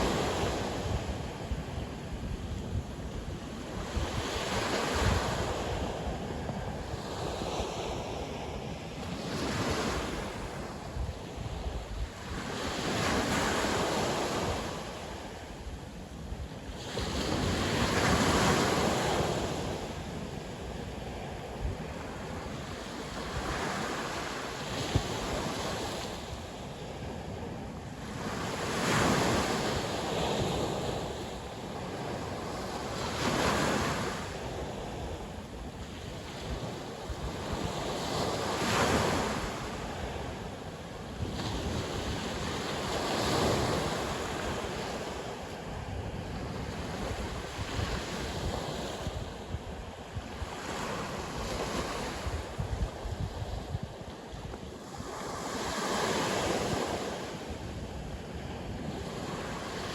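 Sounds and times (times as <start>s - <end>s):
steady wind: 0.0s - 59.9s.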